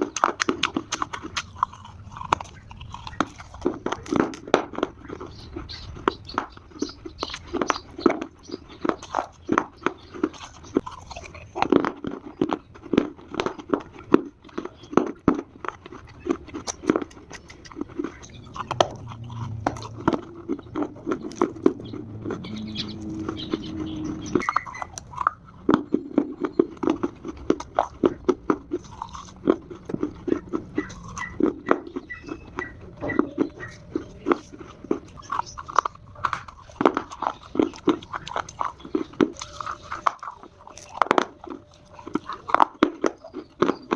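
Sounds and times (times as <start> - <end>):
crunching and chewing dry clay: 0.0 - 43.9.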